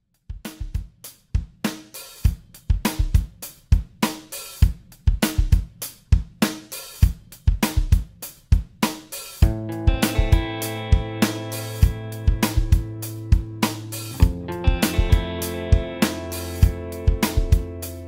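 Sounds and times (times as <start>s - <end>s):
drum kit groove: 0.0s - 18.0s.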